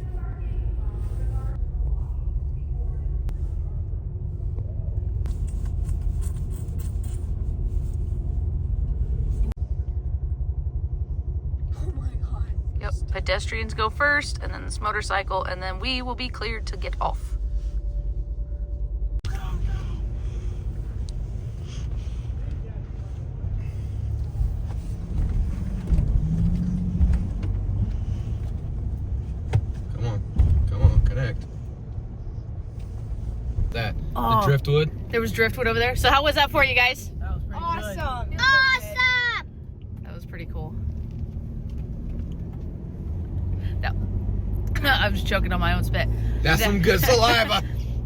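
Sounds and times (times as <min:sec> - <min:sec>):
ferry engine rumble: 0:00.0 - 0:48.0.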